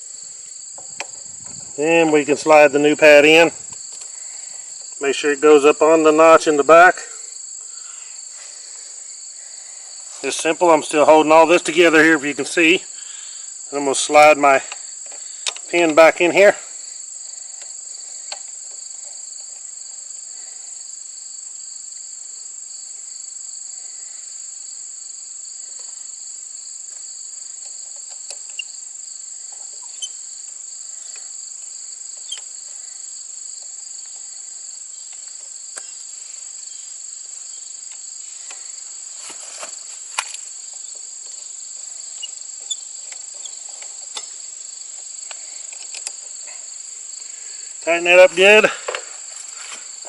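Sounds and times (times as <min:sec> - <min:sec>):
insect chorus drone: 0:00.0 - 0:50.0.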